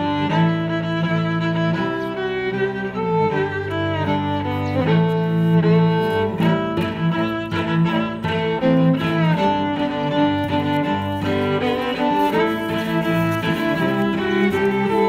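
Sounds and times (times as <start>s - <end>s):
bowed strings music: 0.0s - 15.0s.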